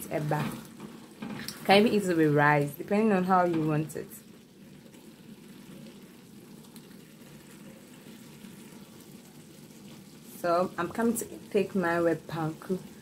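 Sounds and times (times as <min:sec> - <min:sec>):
stew bubbling in a pot: 0:00.0 - 0:13.0.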